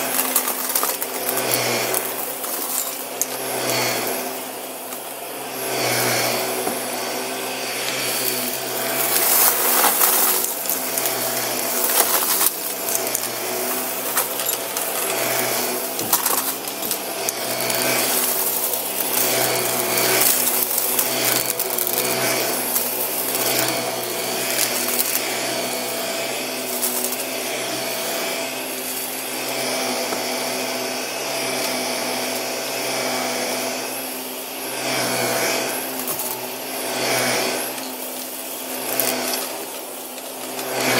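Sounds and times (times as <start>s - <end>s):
vacuum cleaner motor hum: 0.0s - 40.9s.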